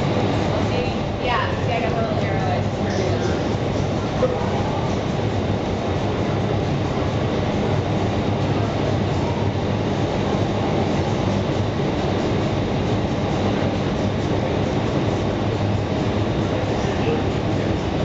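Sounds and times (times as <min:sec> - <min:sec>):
low fan hum: 0:00.0 - 0:18.0.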